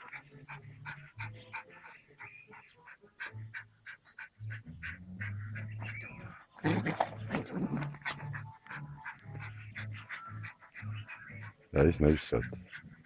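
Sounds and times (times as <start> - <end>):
small dog panting: 0.0 - 13.0.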